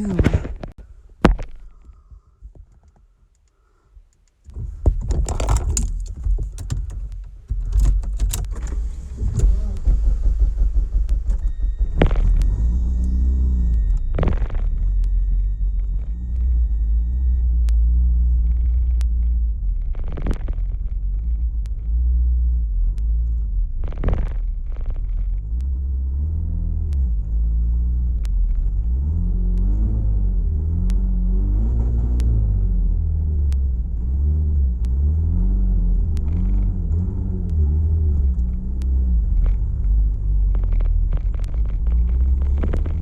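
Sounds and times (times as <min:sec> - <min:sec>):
car engine revving: 0:04.5 - 0:43.0.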